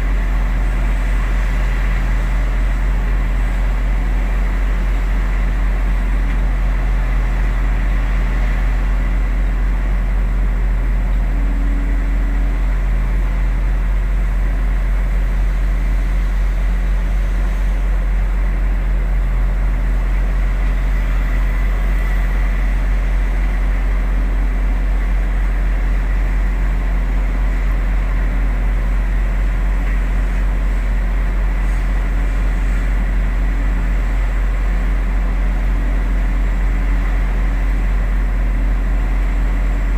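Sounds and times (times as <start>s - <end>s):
diesel engine deep drone: 0.0s - 39.9s.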